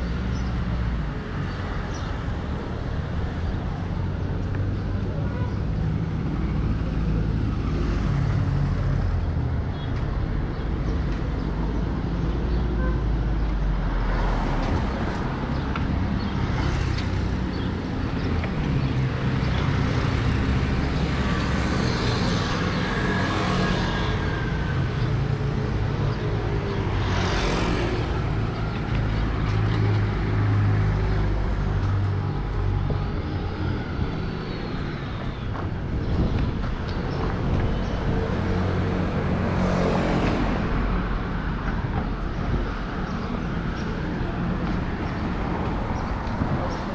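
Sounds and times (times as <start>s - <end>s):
traffic engine hum: 0.0s - 46.9s
vehicles passing close: 0.0s - 46.9s.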